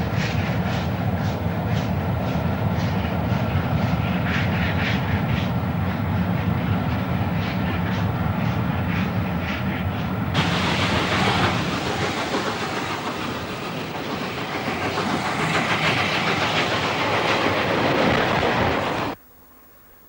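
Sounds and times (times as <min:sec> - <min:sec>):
train running: 0:00.0 - 0:19.2.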